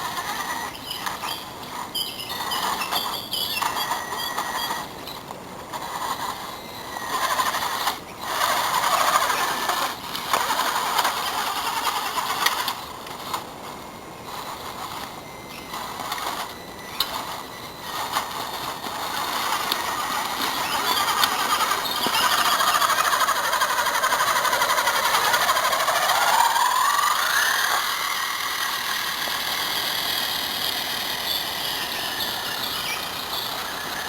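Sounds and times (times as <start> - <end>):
small electric motor whirring: 0.0 - 34.0.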